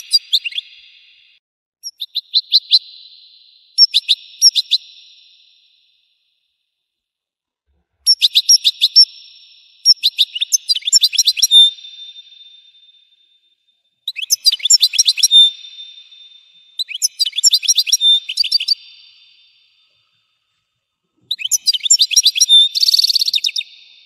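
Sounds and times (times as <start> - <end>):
bird twittering and trilling: 0.0 - 5.7, 8.1 - 13.1, 14.0 - 20.1, 21.2 - 24.0.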